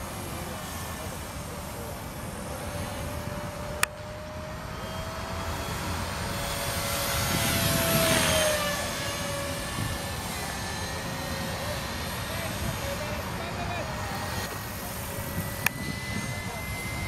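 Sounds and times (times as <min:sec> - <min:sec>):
constant low rumble: 0:00.0 - 0:17.0
rc helicopter motor and rotor whine: 0:00.0 - 0:17.0.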